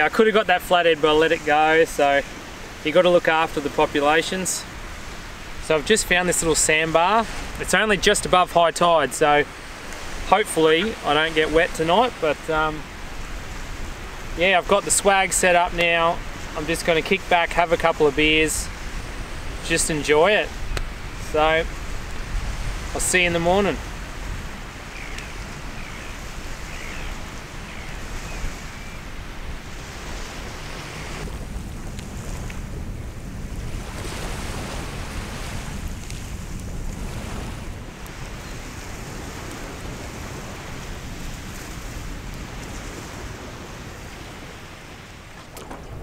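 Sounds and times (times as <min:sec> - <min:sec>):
waves washing onto a beach: 0:00.0 - 0:46.0
wind buffeting the microphone: 0:00.0 - 0:46.0.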